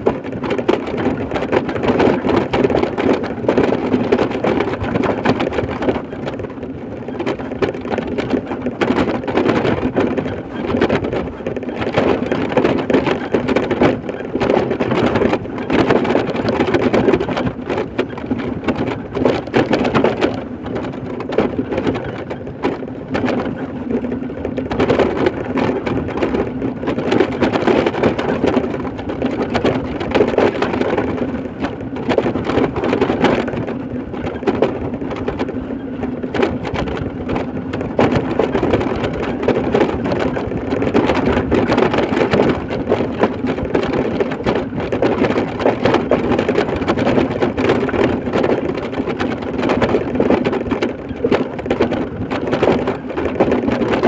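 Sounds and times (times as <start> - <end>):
small knocks and rattles: 0.0 - 54.0
vehicle driving on rough road: 0.0 - 54.0.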